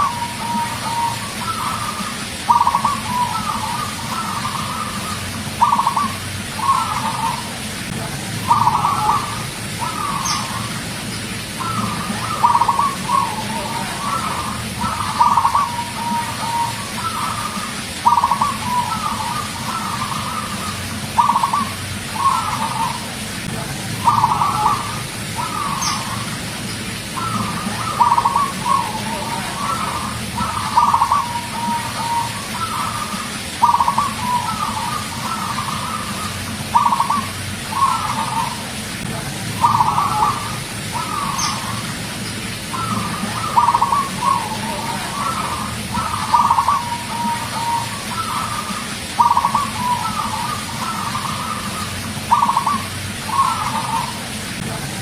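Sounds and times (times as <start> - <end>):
dove cooing: 0.0 - 54.7
steady low hum: 0.0 - 55.0.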